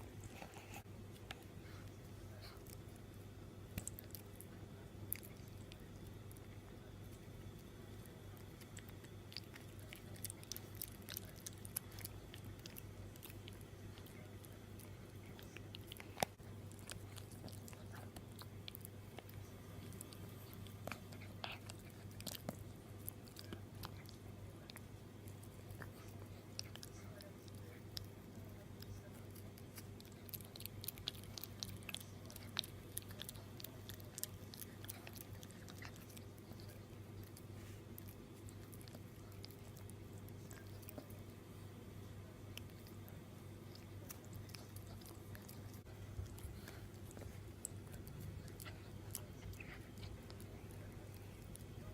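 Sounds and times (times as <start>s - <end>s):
puppy chewing on dog chew: 0.0s - 51.9s.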